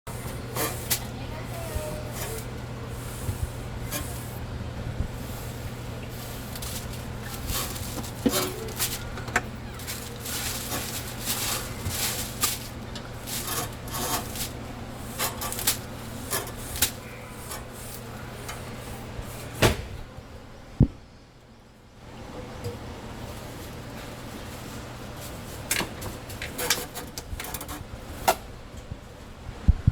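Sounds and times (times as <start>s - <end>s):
brush scraping refrigerator coils: 0.1s - 19.6s, 23.2s - 28.5s
steady low hum: 0.1s - 29.9s.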